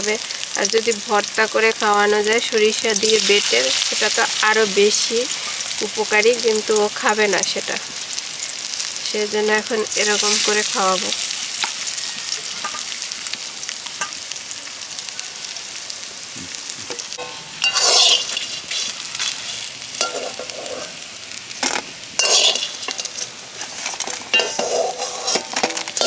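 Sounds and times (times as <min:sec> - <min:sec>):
fritters sizzling in hot oil: 0:00.0 - 0:26.0
stirring in a pan: 0:02.4 - 0:14.8, 0:16.9 - 0:26.0.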